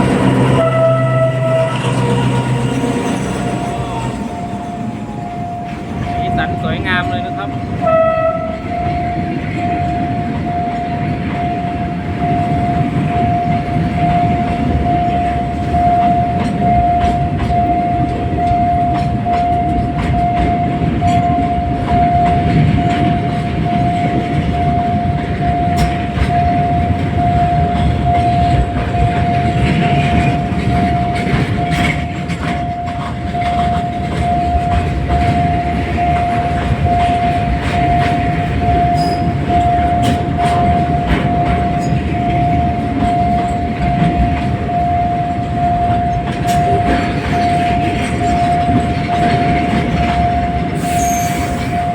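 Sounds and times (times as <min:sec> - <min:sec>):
crossing warning signal pulsing: 0:00.0 - 0:51.9
train wheels rumbling on rails: 0:00.0 - 0:51.9
wheels clicking over rail joints: 0:00.0 - 0:51.9.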